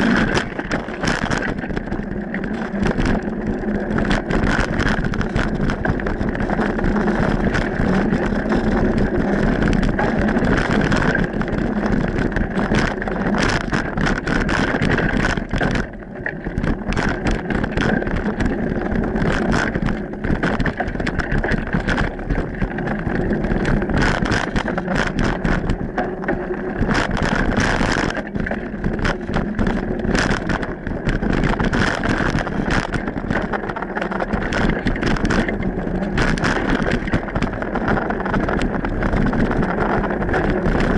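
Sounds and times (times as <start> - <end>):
bike rattling over bumps: 0.0 - 40.9.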